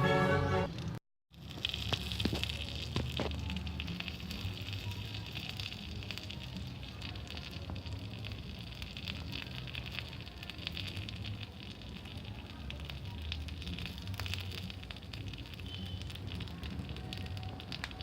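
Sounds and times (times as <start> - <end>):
bonfire crackling: 0.6 - 18.0
low fire rumble: 0.7 - 18.0.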